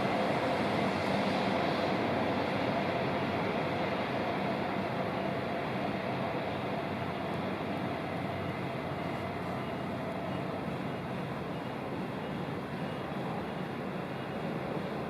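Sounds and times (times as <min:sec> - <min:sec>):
faint whine: 0:00.0 - 0:15.0
train rolling rumble: 0:00.0 - 0:15.0.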